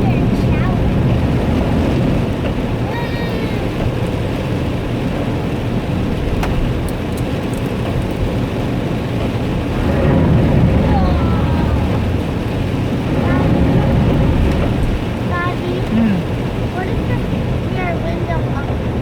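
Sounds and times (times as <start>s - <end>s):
hailstones striking: 0.0s - 18.9s
heavy rain pouring: 0.0s - 19.0s.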